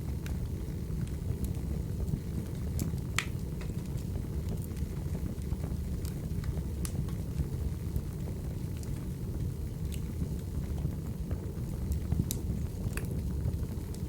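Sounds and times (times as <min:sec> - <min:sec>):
firewood crackling: 0:00.0 - 0:14.0.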